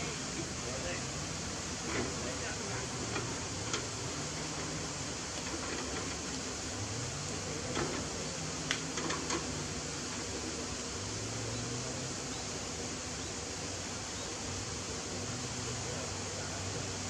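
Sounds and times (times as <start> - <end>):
faint low engine drone: 0.0 - 17.0
steady hiss: 0.0 - 17.0.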